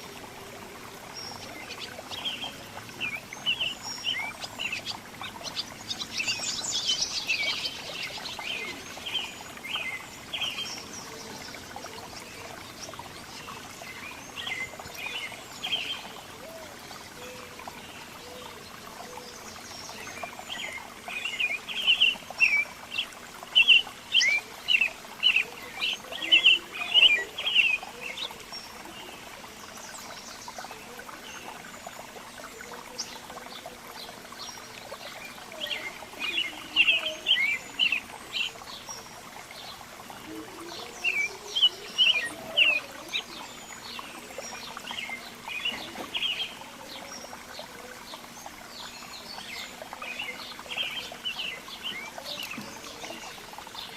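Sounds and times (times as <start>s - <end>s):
small birds chirping: 0.8s - 53.9s.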